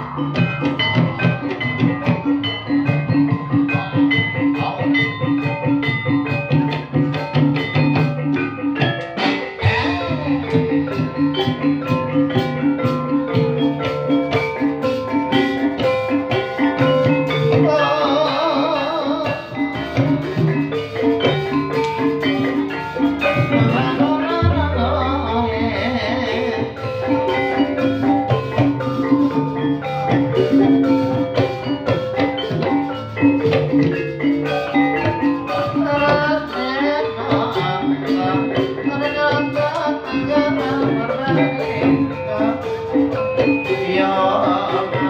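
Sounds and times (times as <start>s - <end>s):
tuned mallet percussion and drums: 0.0s - 45.0s
wavering melody line: 0.0s - 45.0s.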